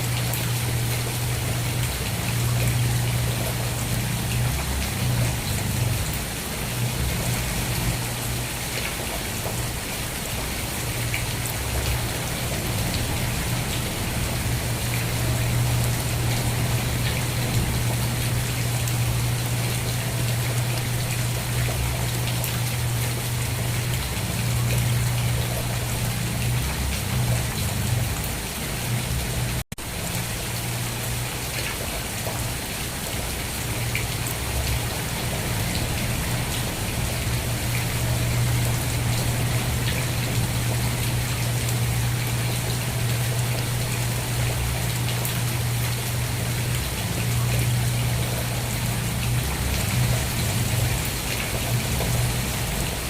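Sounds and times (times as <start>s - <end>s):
steady rain hissing: 0.0s - 53.0s.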